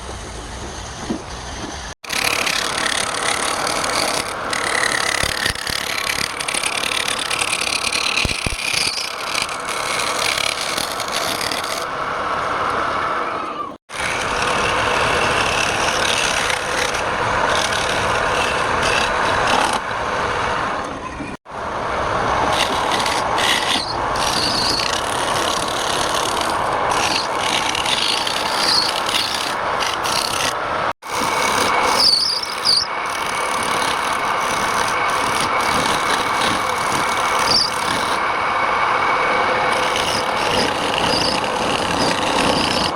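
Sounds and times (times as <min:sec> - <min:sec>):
wood lathe tool scraping: 0:00.1 - 0:20.9, 0:22.4 - 0:42.9.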